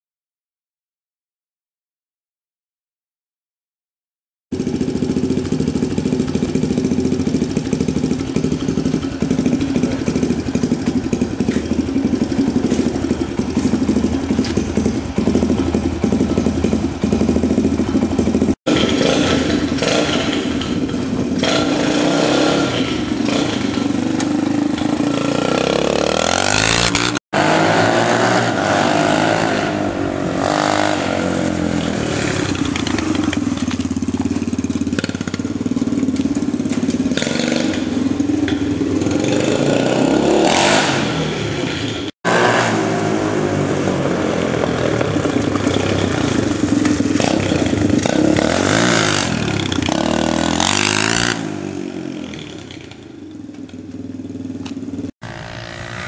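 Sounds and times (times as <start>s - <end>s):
quad engine idling and revving: 4.5s - 56.0s.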